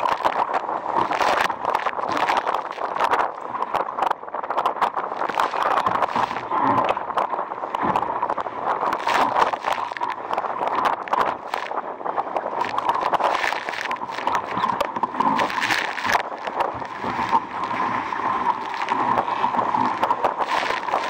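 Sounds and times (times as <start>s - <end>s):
waves slapping hull: 0.0s - 21.0s
wind and water rush: 0.0s - 21.0s
wind gusts on microphone: 0.0s - 21.0s.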